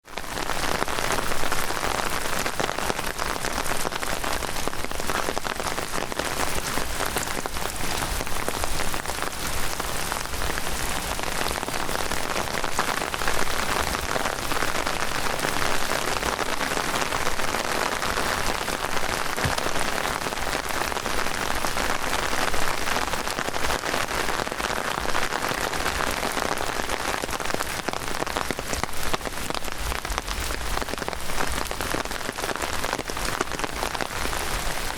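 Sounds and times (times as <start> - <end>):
heavy rain pattering: 0.0 - 34.9.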